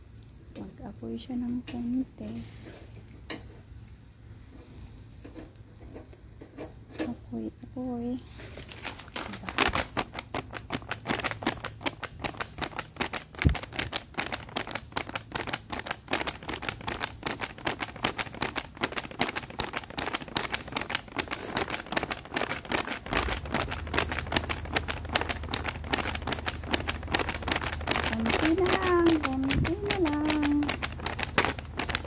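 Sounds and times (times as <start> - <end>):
skewers sizzling over charcoal: 0.0 - 32.0.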